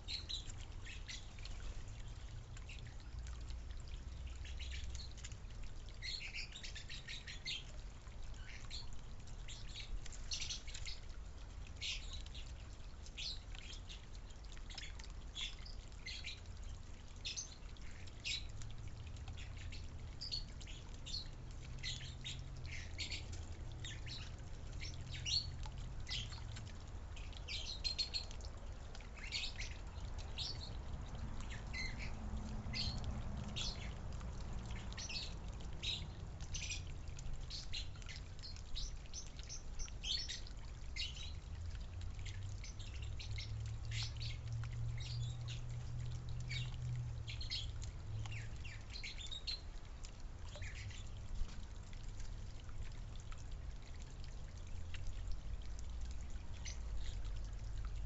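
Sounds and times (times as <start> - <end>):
low steady rumble: 0.0 - 58.0
small birds chirping: 0.0 - 58.0.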